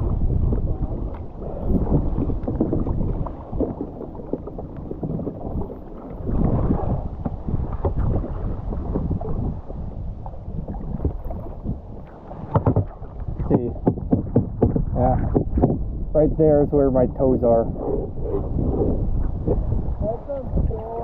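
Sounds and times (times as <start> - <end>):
water rumble on microphone: 0.0 - 21.0
water rushing around kayak: 0.0 - 21.0.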